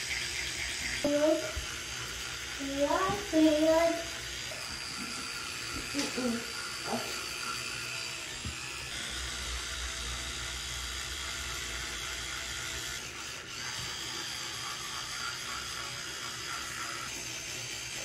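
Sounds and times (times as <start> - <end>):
electric toothbrush buzzing: 0.0 - 18.0.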